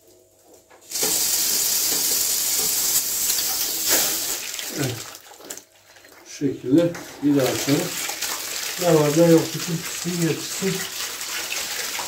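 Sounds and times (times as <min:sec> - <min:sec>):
water rushing into plastic bucket: 0:00.9 - 0:12.0.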